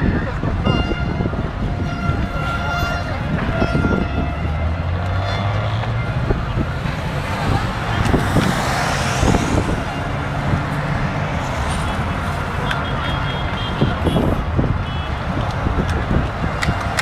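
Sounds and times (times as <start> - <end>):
car engines rumbling: 0.0 - 17.0
tyre and street noise: 0.0 - 17.0.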